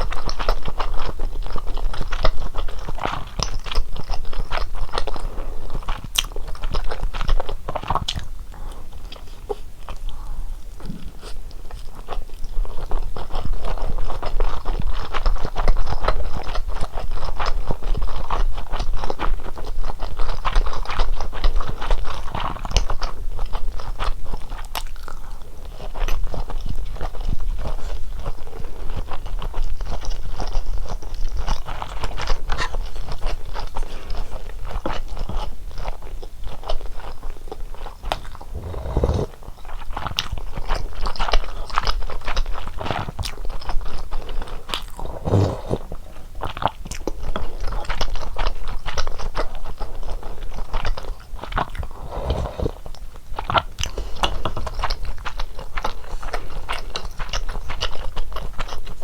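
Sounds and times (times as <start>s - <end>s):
close chewing and biting: 0.0s - 59.0s.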